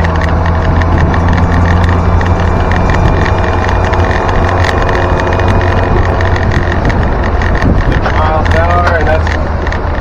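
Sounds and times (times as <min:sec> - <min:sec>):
engine droning: 0:00.0 - 0:10.0
vehicle body rattling: 0:00.0 - 0:10.0.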